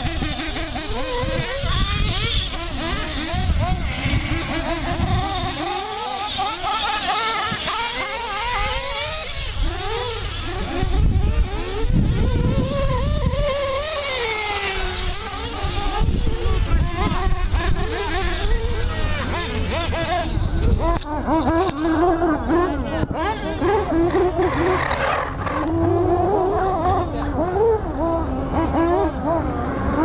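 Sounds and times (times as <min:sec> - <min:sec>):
small engines buzzing and revving: 0:00.0 - 0:30.0.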